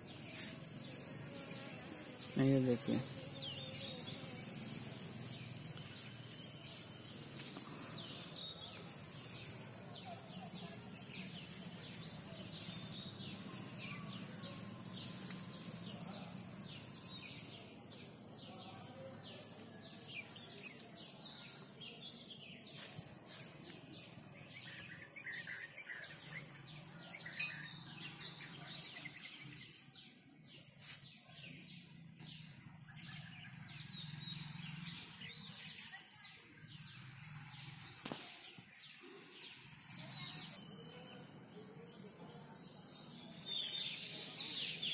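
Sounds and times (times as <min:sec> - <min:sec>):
insects droning: 0:00.0 - 0:44.9.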